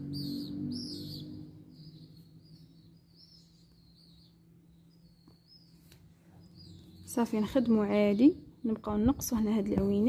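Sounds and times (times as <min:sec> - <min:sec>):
faint bird chirps: 0:00.0 - 0:10.0
low room hum: 0:00.0 - 0:10.0.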